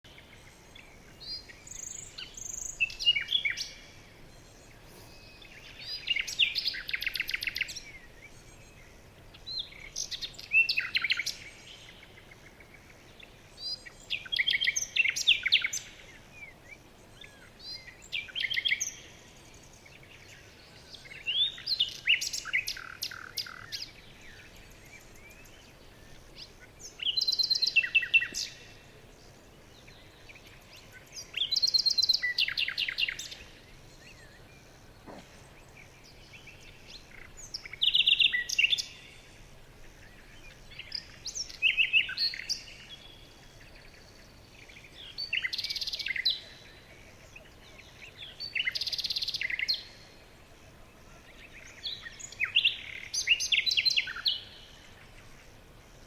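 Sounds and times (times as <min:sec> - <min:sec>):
songbird singing trilled phrases: 0:00.0 - 0:50.4, 0:51.0 - 0:56.0
faint background hiss: 0:00.0 - 0:56.0.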